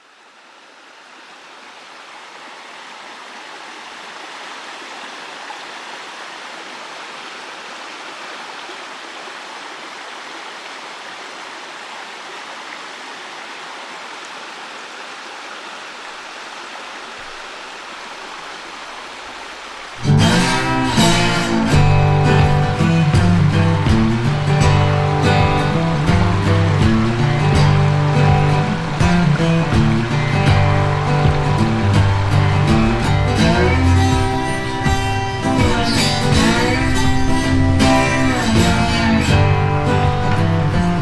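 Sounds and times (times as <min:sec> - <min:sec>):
mountain stream flowing: 0:00.0 - 0:41.0.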